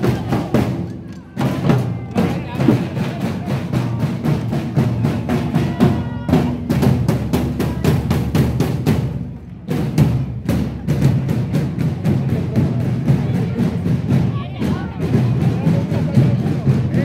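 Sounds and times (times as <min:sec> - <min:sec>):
marching drums: 0:00.0 - 0:17.0.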